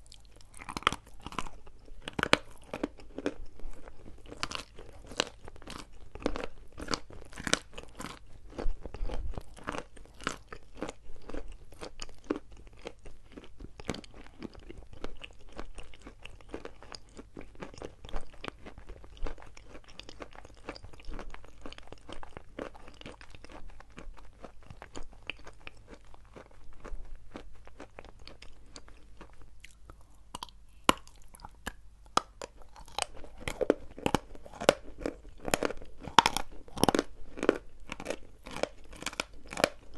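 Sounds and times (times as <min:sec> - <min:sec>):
chalk being chewed: 0:00.0 - 0:39.9.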